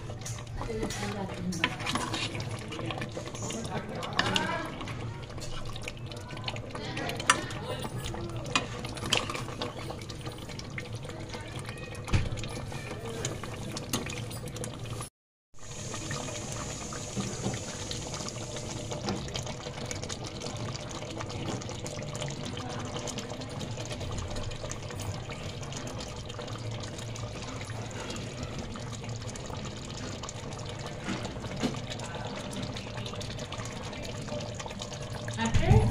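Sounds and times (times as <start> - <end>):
curry bubbling and sizzling: 0.0 - 35.9.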